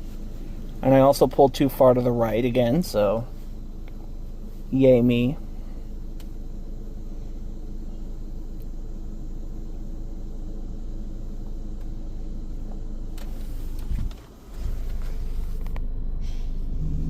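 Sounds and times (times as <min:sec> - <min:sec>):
car engine idling: 0:00.0 - 0:17.0
car wash mechanical hum: 0:00.0 - 0:17.0.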